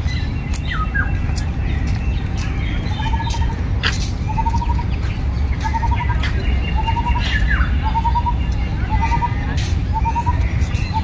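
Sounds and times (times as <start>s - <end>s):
bird trill: 0.0s - 3.6s, 4.2s - 11.0s
bird chips: 0.0s - 11.0s.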